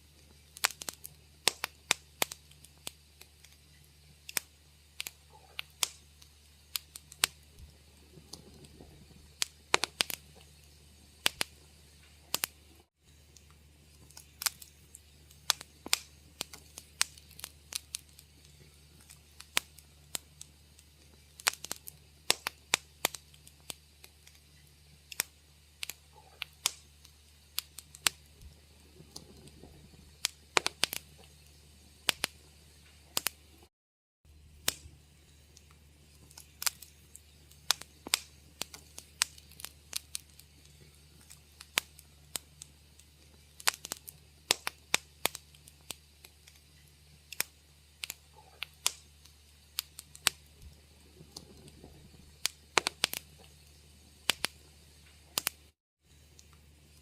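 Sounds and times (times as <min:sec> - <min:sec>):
low steady hum: 0:00.0 - 0:33.7, 0:34.3 - 0:57.0
wood fire crackling: 0:00.0 - 0:33.7, 0:34.3 - 0:57.0.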